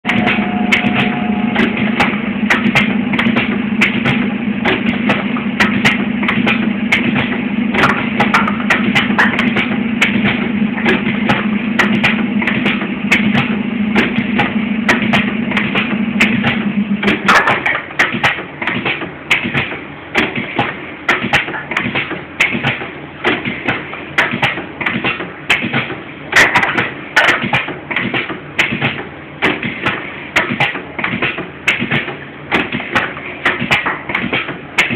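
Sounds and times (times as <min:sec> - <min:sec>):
machine clicking and knocking: 0:00.0 - 0:34.9
steady low hum: 0:00.0 - 0:34.9.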